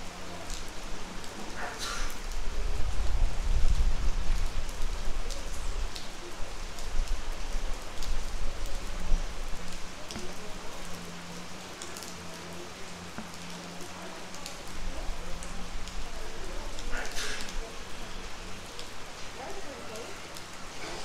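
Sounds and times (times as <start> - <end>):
close raindrops striking: 0.0 - 21.0
steady rain falling: 0.0 - 21.0.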